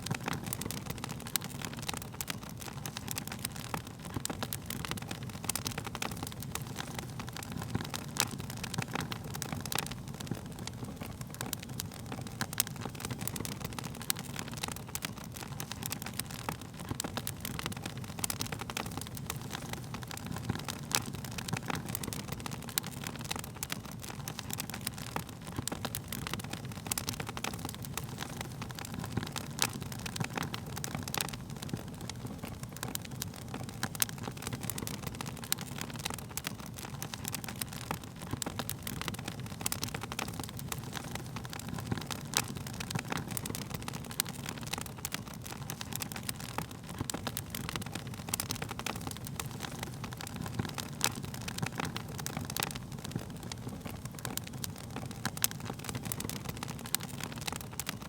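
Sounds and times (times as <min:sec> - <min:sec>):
burning wood crackling and popping: 0:00.0 - 0:58.0
wood fire flames rumbling: 0:00.0 - 0:58.0.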